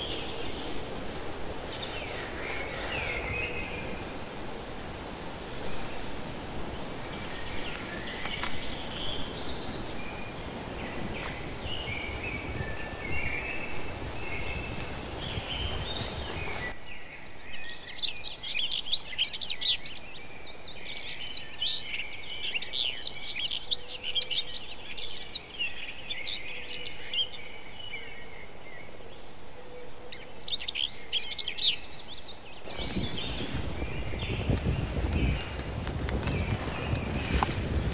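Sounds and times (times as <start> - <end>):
small birds chirping: 0.0 - 4.4, 5.0 - 29.3, 30.1 - 37.9.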